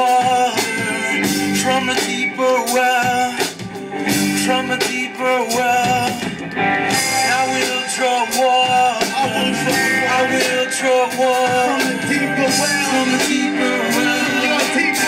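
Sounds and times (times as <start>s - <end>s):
drum kit: 0.0s - 15.0s
electric guitars: 0.0s - 15.0s
person singing: 0.0s - 15.0s.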